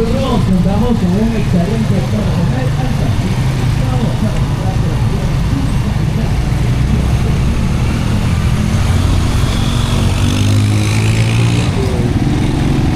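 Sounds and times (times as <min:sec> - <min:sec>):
motorcycle engine running: 0:00.0 - 0:12.9
street traffic: 0:00.0 - 0:12.9.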